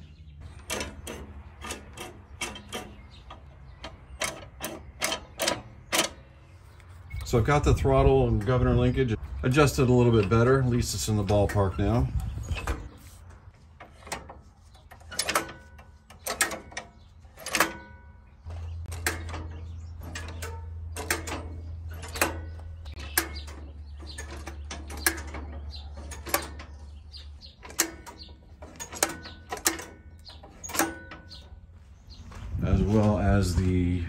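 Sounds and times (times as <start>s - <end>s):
metal linkage clicks and clanks: 0.4s - 31.7s.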